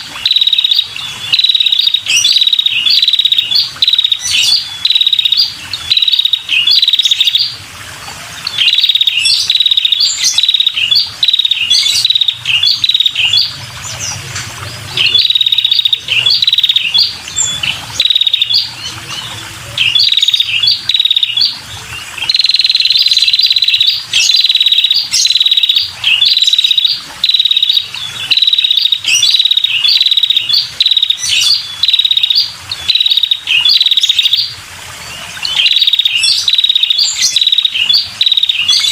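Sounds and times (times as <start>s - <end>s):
small bird chirping rapidly: 0.0s - 7.5s, 8.5s - 21.6s, 22.2s - 34.5s, 35.5s - 38.9s
bird trill: 0.0s - 7.6s, 8.4s - 38.9s.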